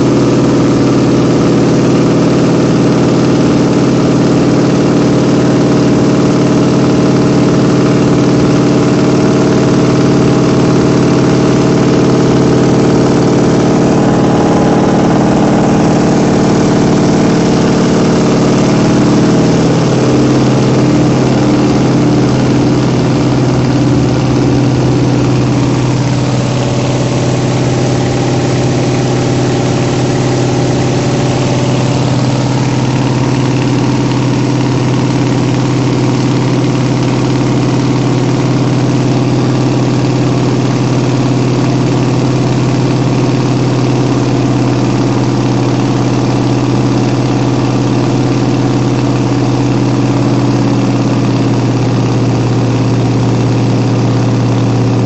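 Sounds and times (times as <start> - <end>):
small plane engine droning: 0.0 - 55.0.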